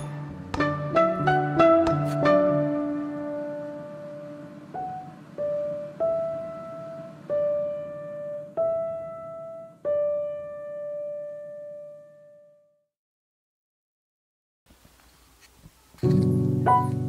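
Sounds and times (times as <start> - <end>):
slow piano notes: 0.0 - 12.8, 16.0 - 17.0.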